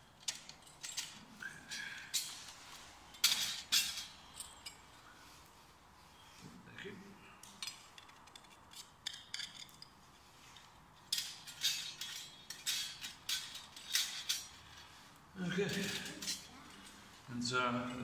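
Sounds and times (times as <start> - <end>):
scraping metal clinks: 0.0 - 5.2, 7.4 - 17.2.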